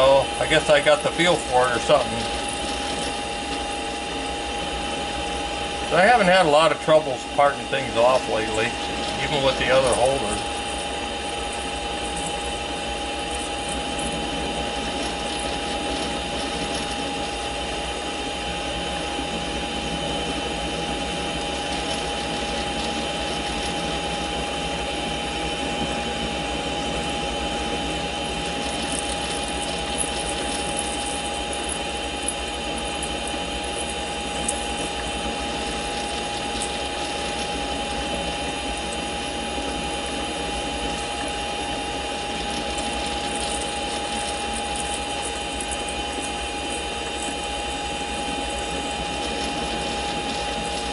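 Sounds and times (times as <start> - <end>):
lathe running with whine: 0.0 - 50.9.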